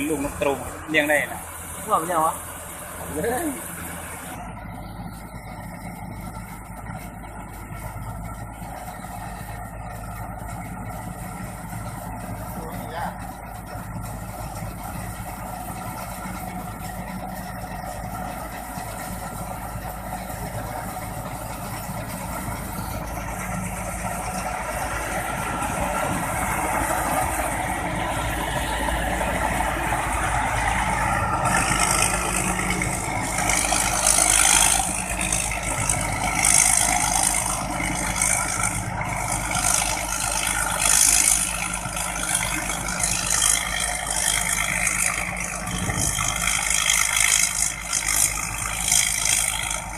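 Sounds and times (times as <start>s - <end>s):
combine harvester engine hum: 0.0s - 49.9s
rattling hiss of threshing gear: 8.7s - 49.9s.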